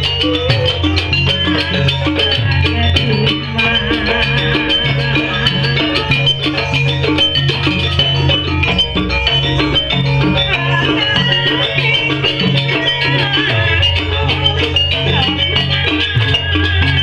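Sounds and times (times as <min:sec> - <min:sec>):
fast drumming: 0:00.0 - 0:17.0
ringing metal percussion notes: 0:00.0 - 0:17.0
low gong tones: 0:01.2 - 0:15.3.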